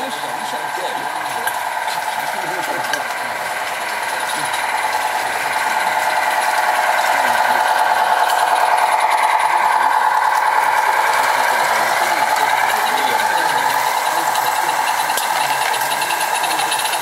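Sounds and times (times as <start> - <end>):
model train buzzing whine: 0.0 - 17.0.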